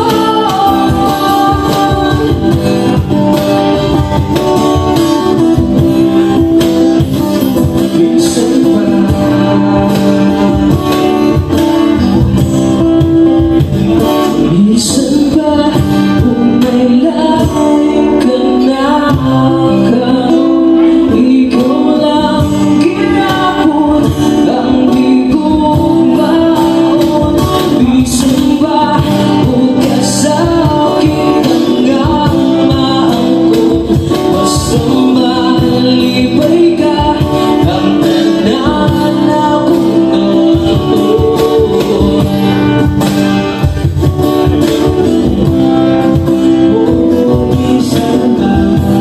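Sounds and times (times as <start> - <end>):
acoustic guitar chords: 0.0 - 49.0
cajon beat: 0.0 - 49.0
man singing: 0.0 - 49.0.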